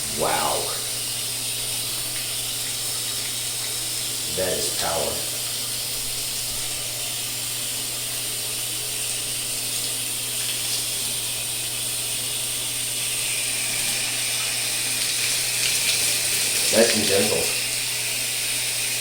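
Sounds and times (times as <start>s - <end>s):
shower head spraying water: 0.0s - 19.0s.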